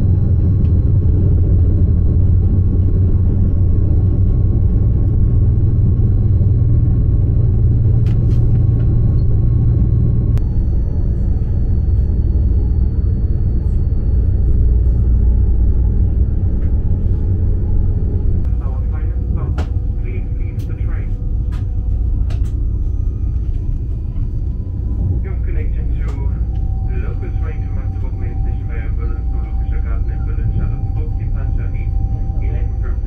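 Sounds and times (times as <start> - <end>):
train rolling rumble: 0.0 - 33.0
faint high whines: 5.1 - 33.0.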